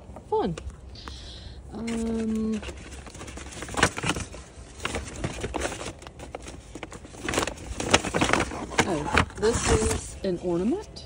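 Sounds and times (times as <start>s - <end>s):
items and bags being unpacked: 1.0s - 11.0s.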